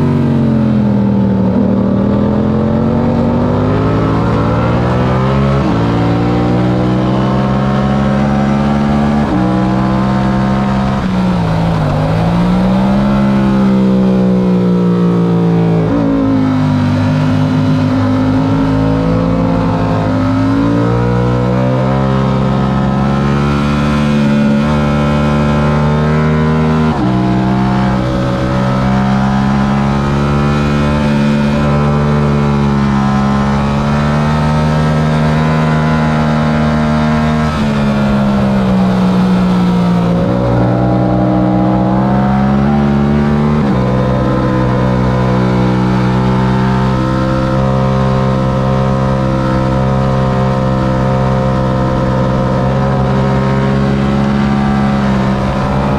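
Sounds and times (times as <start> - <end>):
motorcycle engine at high revs: 0.0 - 55.9.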